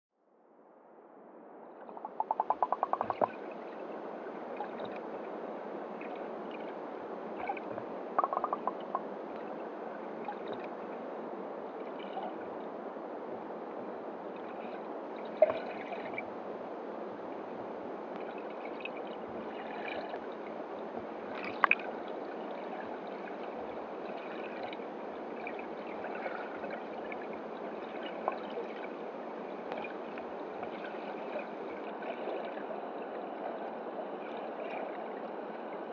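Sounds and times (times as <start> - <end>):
underwater flowing water: 0.5 - 35.9.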